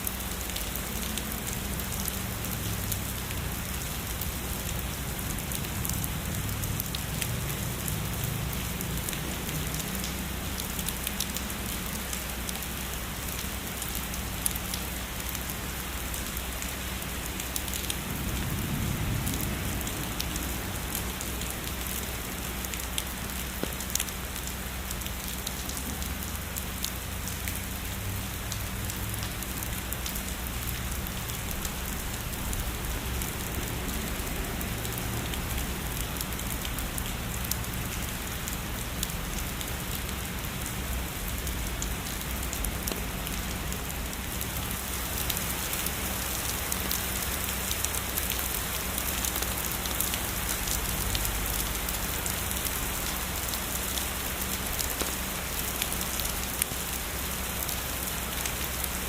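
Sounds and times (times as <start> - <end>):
heavy rain hiss: 0.0 - 59.0
raindrop ticks: 0.0 - 59.0.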